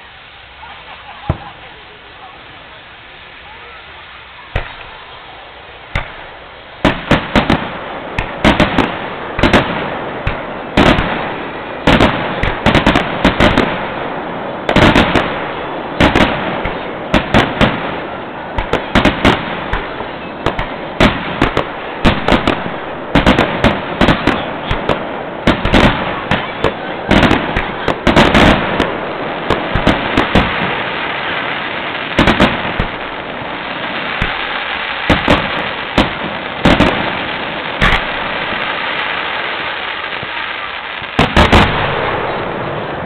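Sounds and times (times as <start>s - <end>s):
fireworks barrage: 0.0s - 43.0s.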